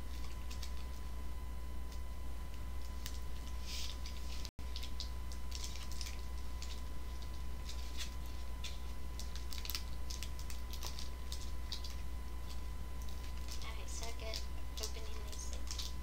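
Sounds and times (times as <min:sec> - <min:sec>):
plastic wrapper crinkling: 0:02.8 - 0:16.0.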